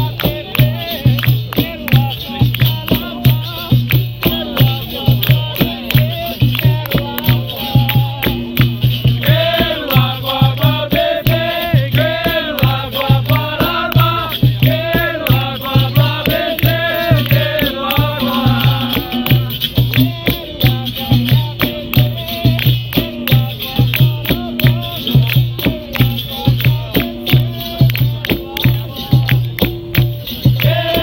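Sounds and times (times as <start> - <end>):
low drum beat: 0.0 - 31.0
shaken rattle: 0.0 - 31.0.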